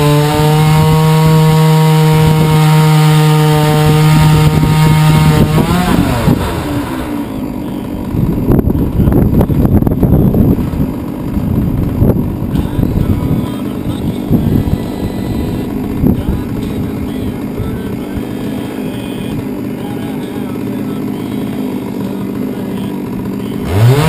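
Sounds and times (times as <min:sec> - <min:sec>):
chainsaw ripping log: 0:00.0 - 0:24.0.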